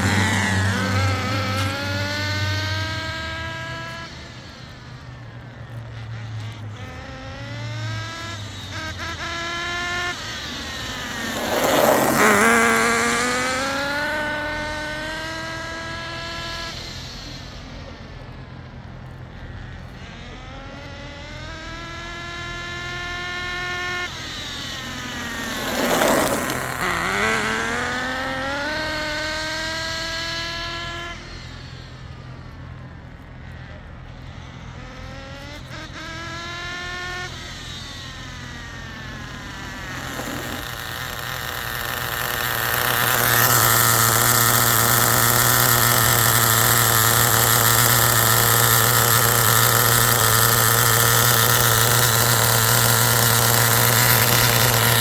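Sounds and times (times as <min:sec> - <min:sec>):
rc car engine revving: 0:00.0 - 0:55.0.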